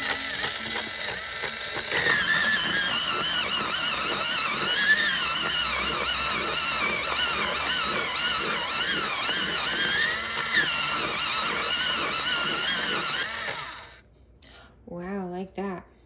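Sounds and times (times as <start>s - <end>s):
electric pencil sharpener whining: 0.0s - 14.0s.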